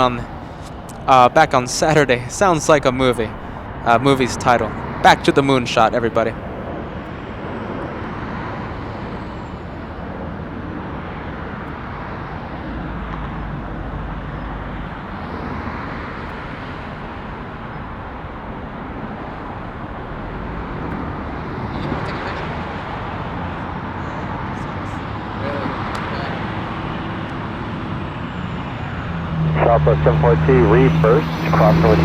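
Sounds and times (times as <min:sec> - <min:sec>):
distant jet engine: 0:00.0 - 0:32.0
road traffic rumble: 0:00.0 - 0:32.0.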